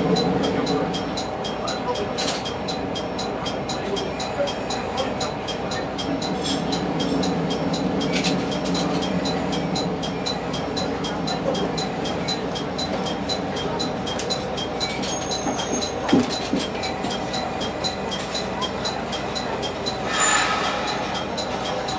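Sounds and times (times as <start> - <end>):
diesel railcar engine drone: 0.0 - 21.9
regular ticking: 0.0 - 21.9.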